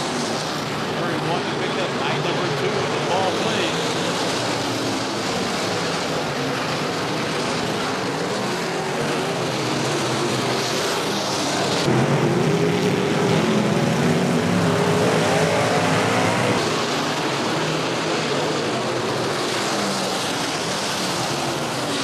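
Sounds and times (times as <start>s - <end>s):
race car engines racing: 0.0s - 22.0s.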